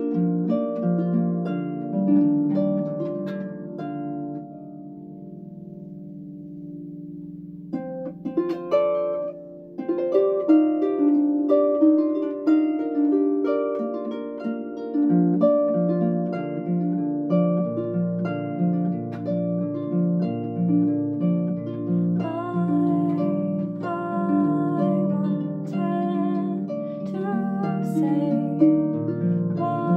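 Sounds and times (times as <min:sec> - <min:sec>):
harp playing: 0:00.0 - 0:29.9.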